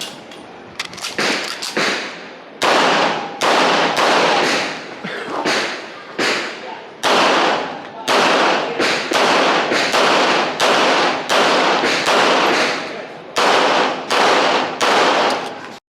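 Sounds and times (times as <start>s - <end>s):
handgun shots with ringing echo: 1.2s - 4.8s, 5.5s - 15.6s.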